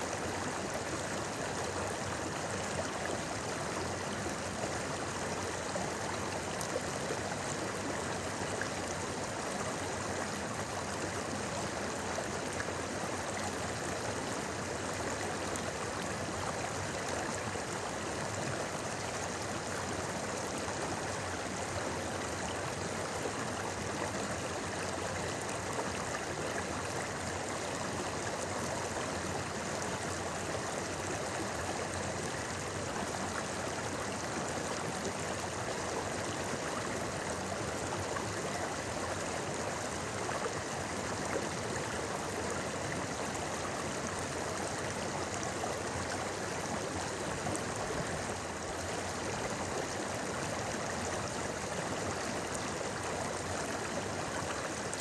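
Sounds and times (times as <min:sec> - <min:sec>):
shallow stream babbling: 0:00.0 - 0:55.0.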